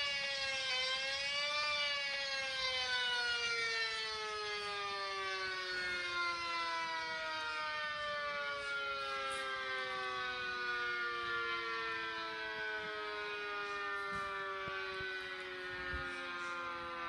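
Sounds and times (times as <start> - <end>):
warning siren winding down: 0.0 - 17.0.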